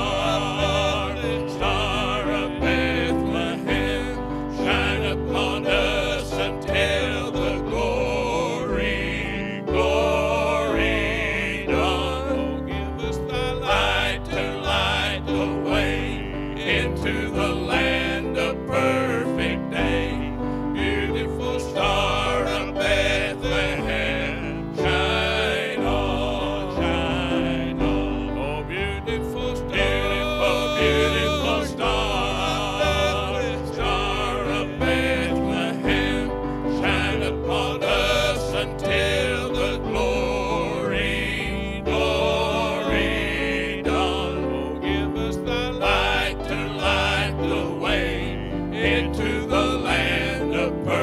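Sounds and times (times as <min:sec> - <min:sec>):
instrumental accompaniment: 0:00.0 - 0:51.0
men singing: 0:00.0 - 0:51.0.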